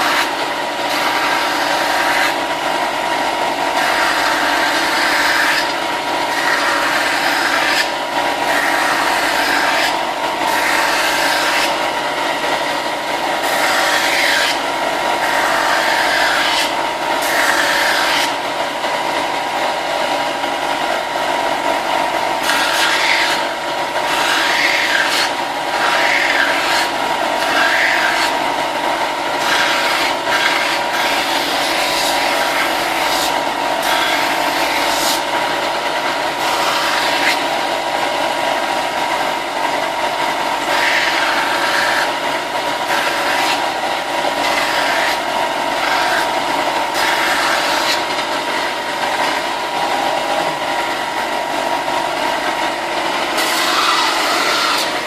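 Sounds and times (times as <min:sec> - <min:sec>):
power sander running: 0:00.0 - 0:55.0.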